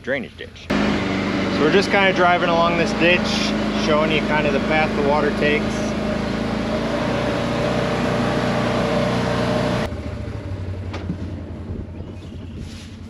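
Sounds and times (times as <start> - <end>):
utility vehicle engine running: 0.7 - 13.0.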